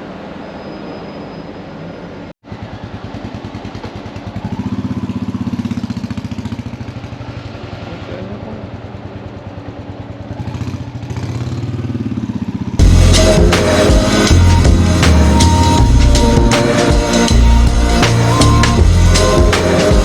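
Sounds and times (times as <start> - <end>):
motorcycle engine running: 2.5 - 20.0.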